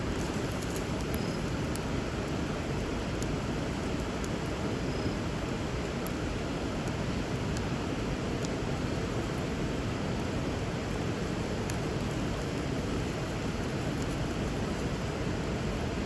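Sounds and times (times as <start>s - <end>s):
bonfire crackles: 0.0s - 16.0s.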